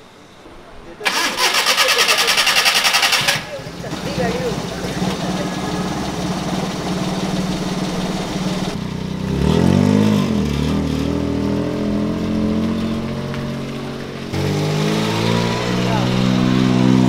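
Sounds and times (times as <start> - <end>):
car engine revving: 1.0 - 17.0.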